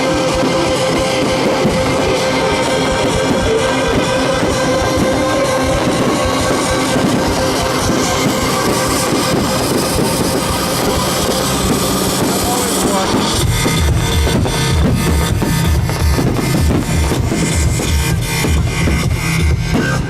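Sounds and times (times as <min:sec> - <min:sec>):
drums: 0:00.0 - 0:20.0
guitar: 0:00.0 - 0:20.0
heavy pulsing beat: 0:00.0 - 0:20.0.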